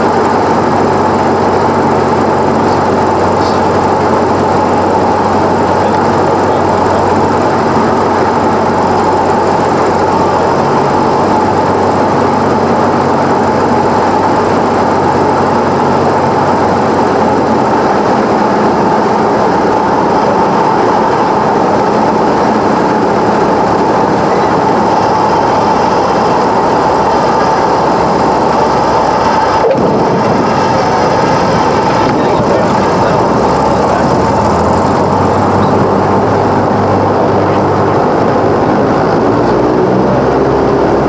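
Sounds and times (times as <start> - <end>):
propeller plane engine drone: 0.0 - 41.0.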